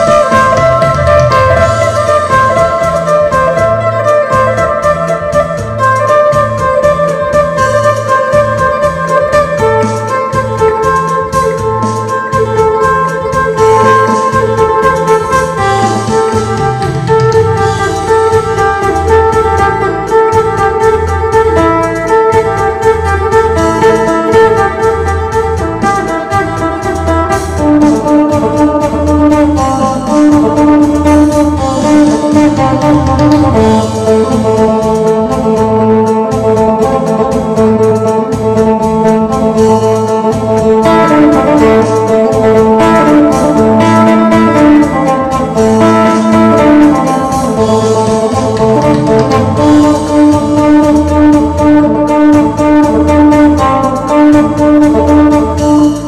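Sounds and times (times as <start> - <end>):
low bass pulse: 0.0 - 56.0
lute playing fast tune: 0.0 - 56.0.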